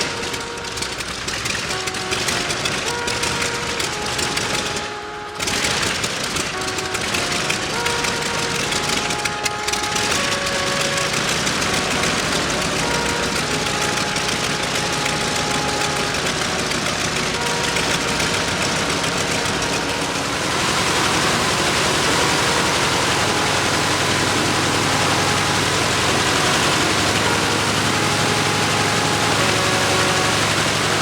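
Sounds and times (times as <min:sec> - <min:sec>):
radial aircraft engine running: 0:00.0 - 0:31.0.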